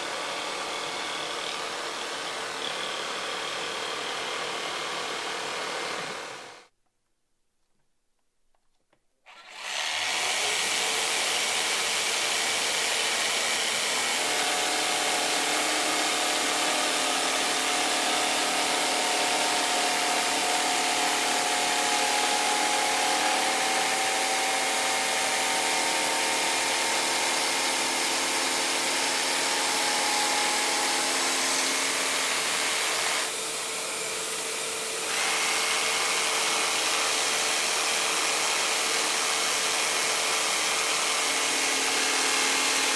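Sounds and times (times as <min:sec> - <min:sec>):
jigsaw cutting plywood: 0:00.0 - 0:06.7, 0:09.3 - 0:42.9.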